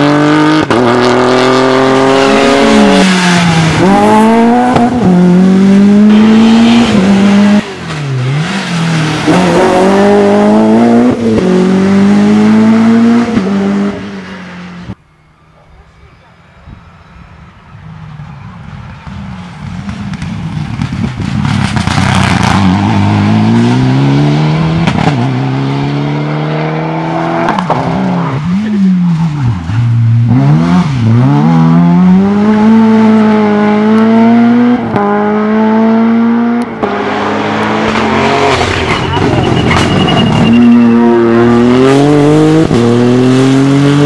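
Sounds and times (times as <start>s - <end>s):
rally car engine revving: 0.0s - 15.0s, 18.8s - 44.0s.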